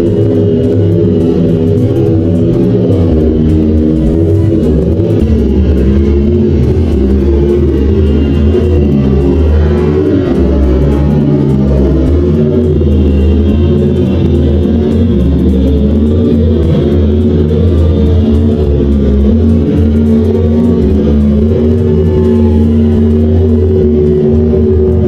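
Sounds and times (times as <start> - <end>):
guitar and bass music: 0.0 - 25.0.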